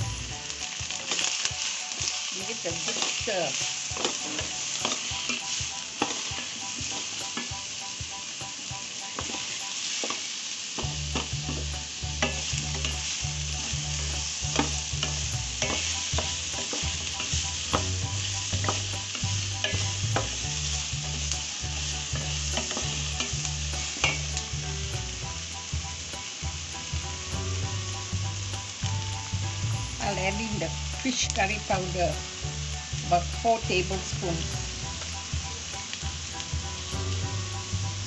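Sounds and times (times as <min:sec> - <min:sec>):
vegetables sizzling in oil: 0:00.0 - 0:38.0.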